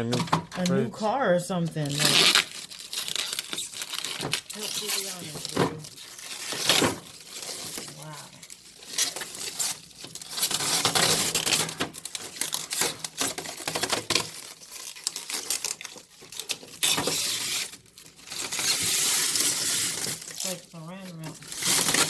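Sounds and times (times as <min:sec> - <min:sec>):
plastic film peeling and tearing: 0:01.8 - 0:22.0.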